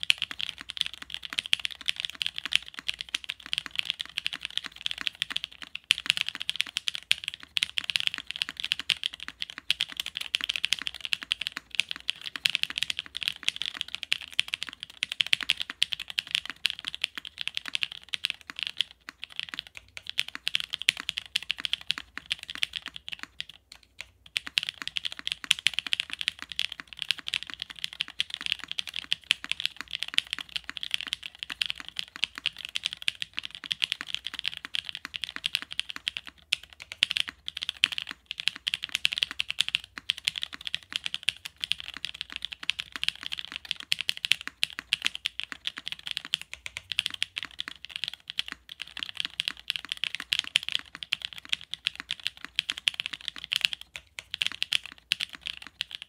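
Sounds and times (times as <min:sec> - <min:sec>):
fast mechanical keyboard typing: 0:00.0 - 0:56.0.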